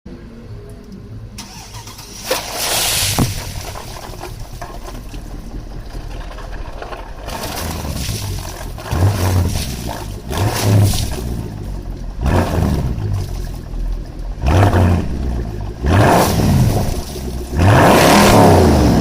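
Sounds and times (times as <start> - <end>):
car engine starting and idling: 0.1 - 19.0.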